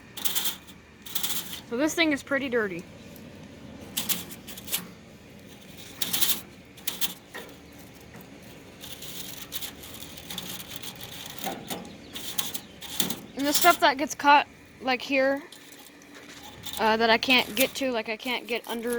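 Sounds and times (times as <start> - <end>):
brush scrubbing metal fins: 0.0 - 18.9.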